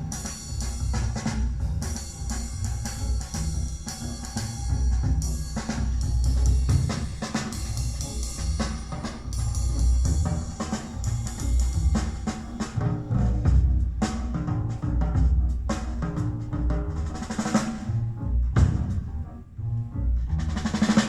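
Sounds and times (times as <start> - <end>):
music with drums and heavy bass: 0.0 - 21.0.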